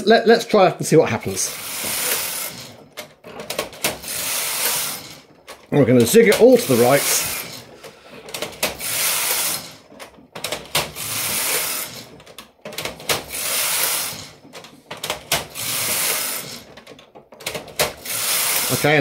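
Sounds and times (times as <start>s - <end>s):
knitting machine carriage swishes: 1.2s - 19.0s
carriage clicks: 1.5s - 19.0s.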